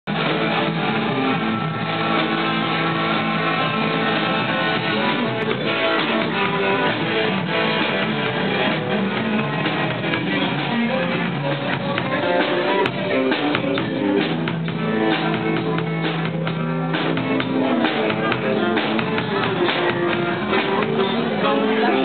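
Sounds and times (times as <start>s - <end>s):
electric guitars jamming: 0.0s - 22.0s.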